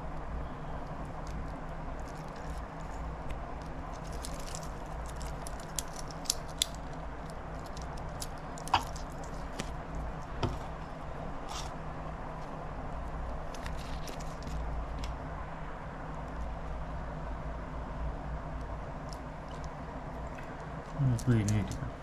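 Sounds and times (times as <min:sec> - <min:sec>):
background hiss and hum: 0:00.0 - 0:22.0.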